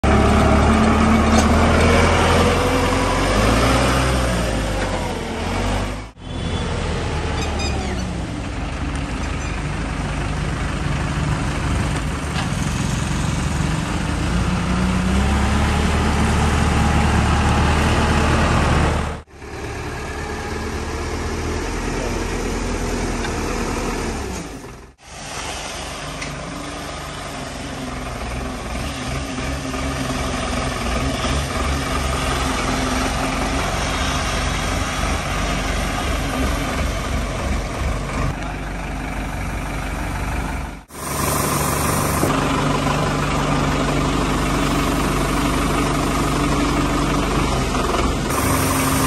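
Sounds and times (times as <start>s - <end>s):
tractor diesel engine revving: 0.0s - 9.1s, 9.8s - 49.0s.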